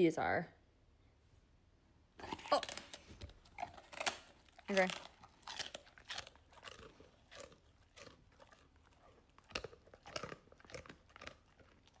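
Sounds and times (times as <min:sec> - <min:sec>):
dog crunching a hard treat: 0:02.2 - 0:12.0.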